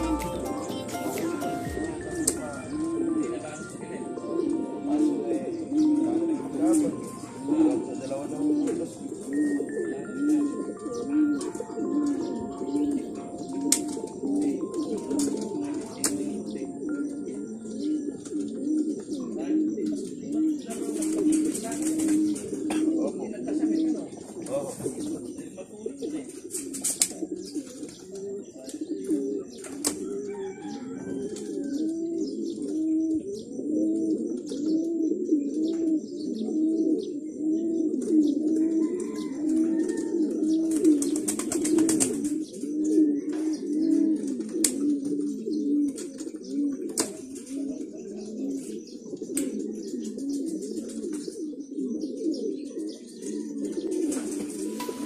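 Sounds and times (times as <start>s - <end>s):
pigeons cooing: 0.0s - 55.0s.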